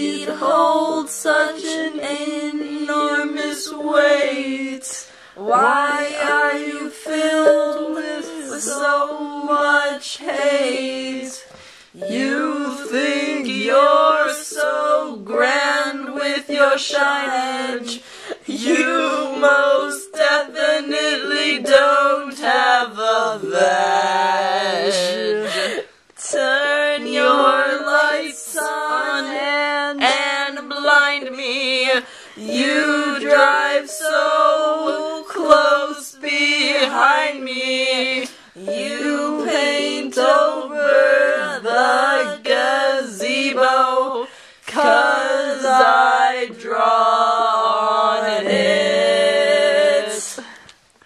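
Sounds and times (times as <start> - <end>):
women singing together: 0.0 - 50.6.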